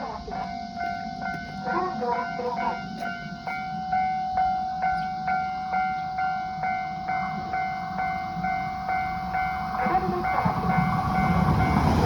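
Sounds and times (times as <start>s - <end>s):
level crossing bell ringing: 0.0s - 12.0s
steady warning tone: 0.0s - 12.0s.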